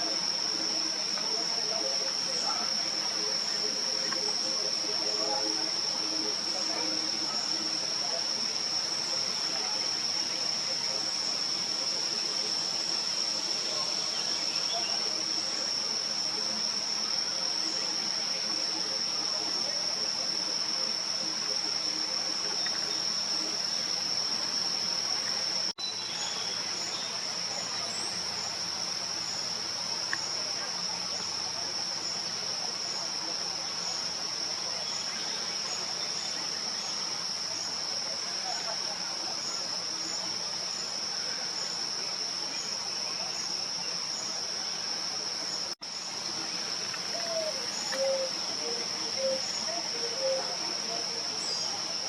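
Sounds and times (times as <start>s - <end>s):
crickets trilling: 0.0s - 52.0s
outdoor background hiss: 0.0s - 52.0s.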